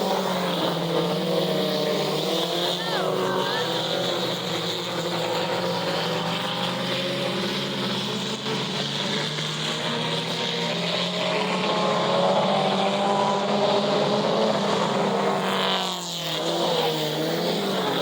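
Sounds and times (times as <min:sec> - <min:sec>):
race car engines running: 0:00.0 - 0:18.0.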